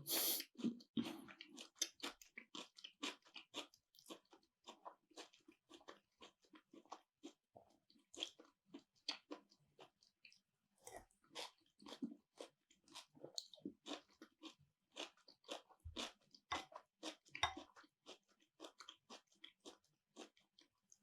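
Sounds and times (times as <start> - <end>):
person chewing and crunching food: 0.0 - 21.0.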